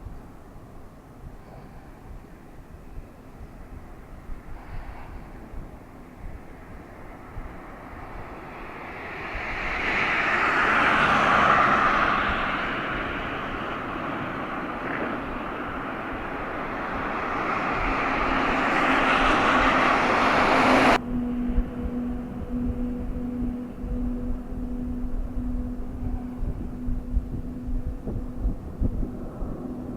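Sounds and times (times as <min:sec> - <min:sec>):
jet engine noise: 0:00.0 - 0:29.9
steady low hum: 0:00.0 - 0:29.9.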